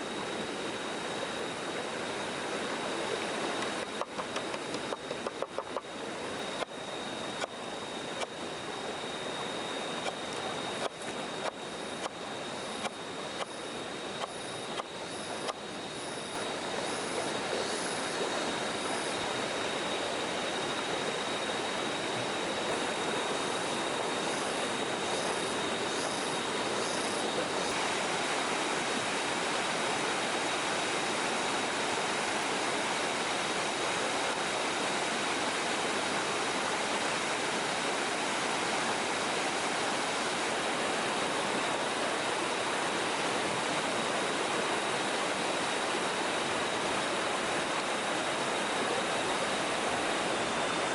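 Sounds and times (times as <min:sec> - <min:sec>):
stream flowing over rocks: 0:00.0 - 0:50.9.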